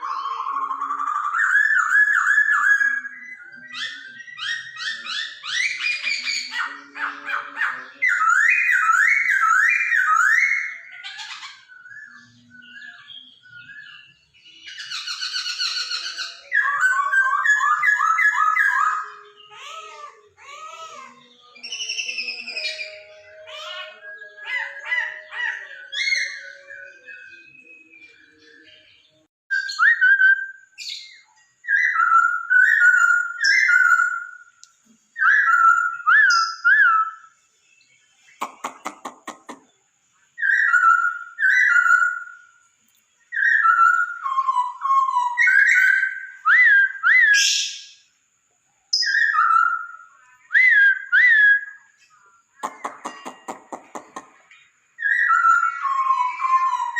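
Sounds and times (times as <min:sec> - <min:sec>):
bird whistling song: 0:00.0 - 0:48.3, 0:48.9 - 0:56.9.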